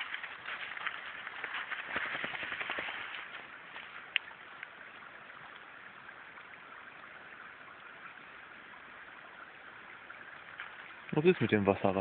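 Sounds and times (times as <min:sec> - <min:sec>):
woodland stream rushing: 0:00.0 - 0:12.0.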